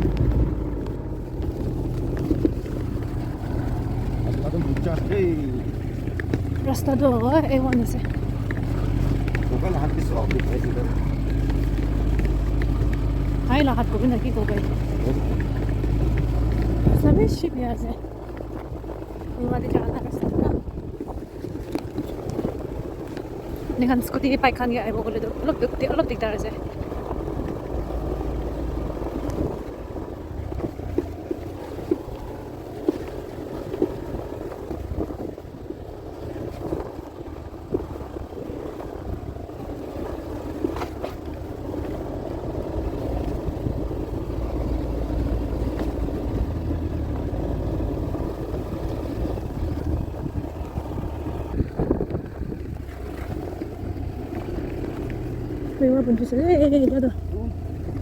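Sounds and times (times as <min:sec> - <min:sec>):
scooter engine running: 0:00.0 - 0:58.0
wind rumbling on microphone: 0:00.0 - 0:58.0.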